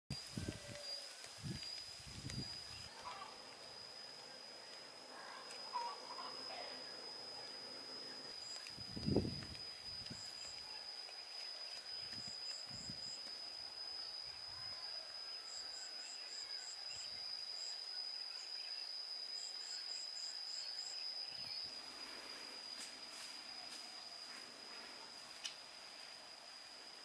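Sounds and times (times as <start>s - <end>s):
high-pitched insect drone: 0.1s - 27.0s.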